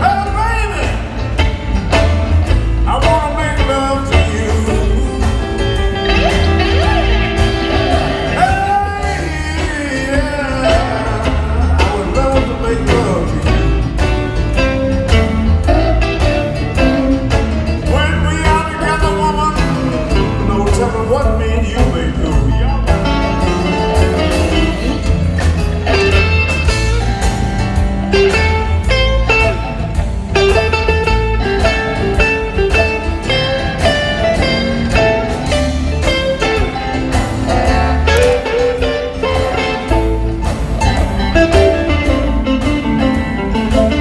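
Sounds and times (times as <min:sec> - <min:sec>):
electric guitar lead lines: 0:00.0 - 0:21.0, 0:21.8 - 0:44.0
live blues band playing: 0:00.0 - 0:44.0.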